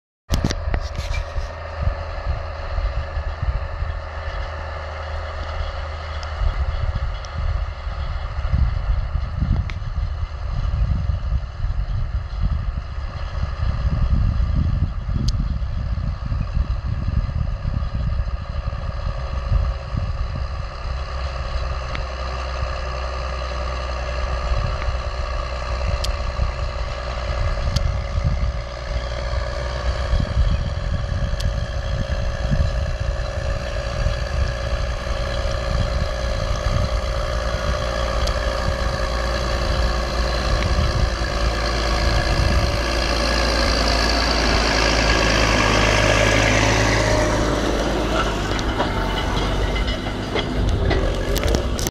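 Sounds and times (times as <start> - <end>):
tractor diesel engine under load: 0.3 - 51.9
wind buffeting microphone: 0.3 - 51.9.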